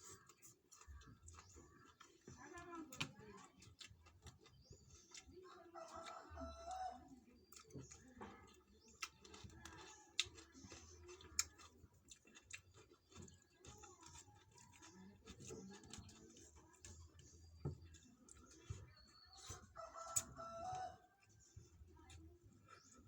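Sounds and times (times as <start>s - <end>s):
chewing sounds: 0.0s - 23.0s.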